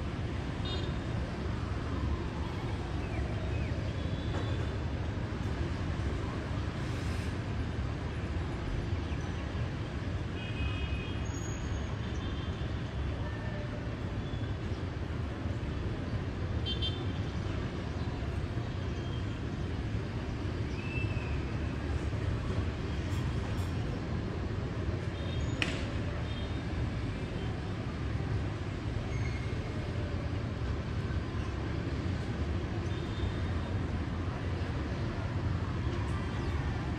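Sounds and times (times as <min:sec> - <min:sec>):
traffic on wet streets: 0:00.0 - 0:36.9.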